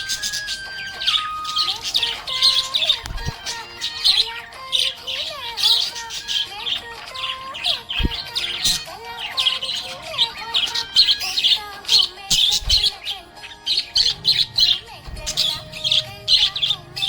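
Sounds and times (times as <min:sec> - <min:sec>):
budgerigar chirping: 0:00.0 - 0:17.0.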